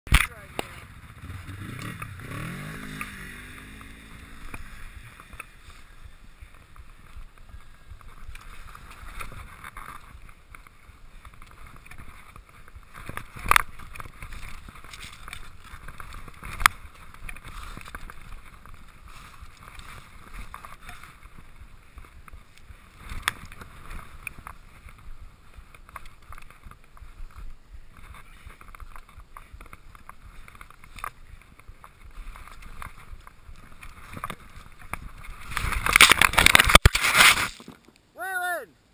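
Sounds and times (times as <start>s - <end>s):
skis sliding over snow: 0.2s - 38.3s.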